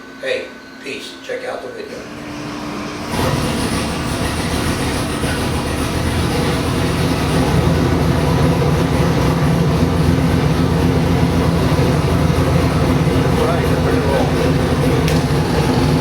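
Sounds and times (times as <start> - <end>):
engine running steadily: 2.9 - 16.0.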